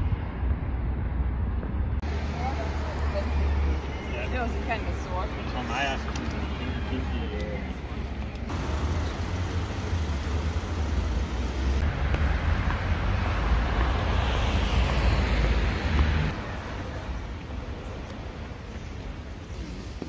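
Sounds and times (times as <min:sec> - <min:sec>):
cars passing: 0:00.0 - 0:20.0
traffic rumble: 0:00.0 - 0:20.0.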